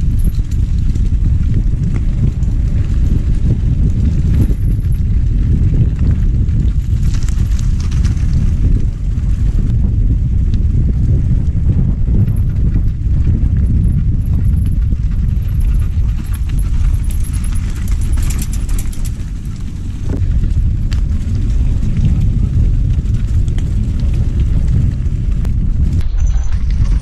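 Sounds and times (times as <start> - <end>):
mountain bike rattling on rocks: 0.0 - 27.0
wind rumbling on microphone: 0.0 - 27.0.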